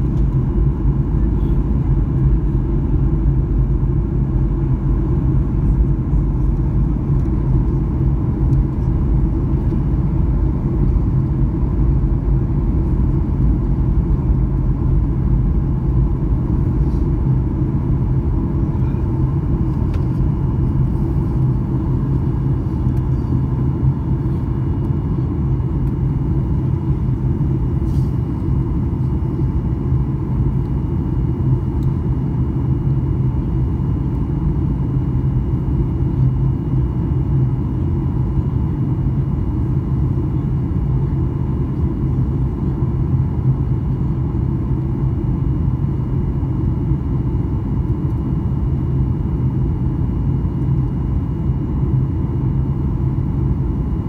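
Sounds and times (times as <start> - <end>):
airplane cabin low rumble: 0.0 - 54.0.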